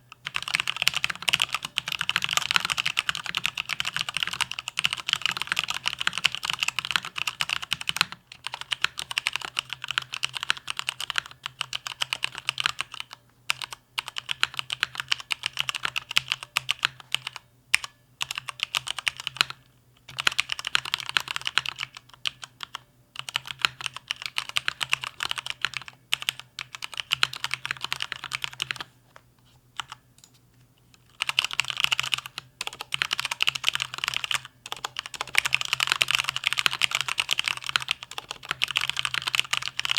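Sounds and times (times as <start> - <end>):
fast mechanical keyboard typing: 0.2 - 17.4, 18.2 - 28.9, 31.1 - 39.9.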